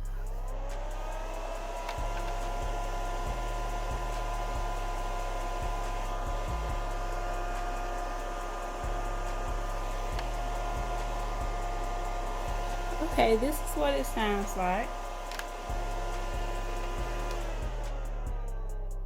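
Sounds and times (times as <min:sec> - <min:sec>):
suction fan whirring: 0:00.0 - 0:19.0.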